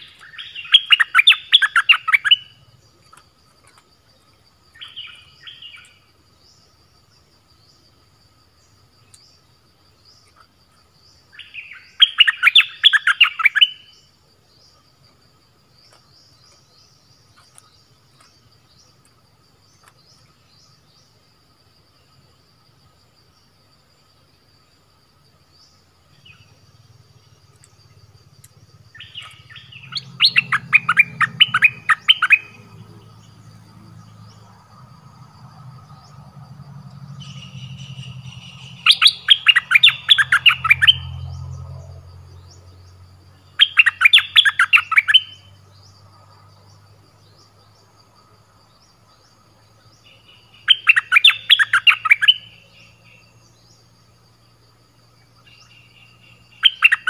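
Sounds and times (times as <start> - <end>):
songbirds chattering: 0.0 - 57.0.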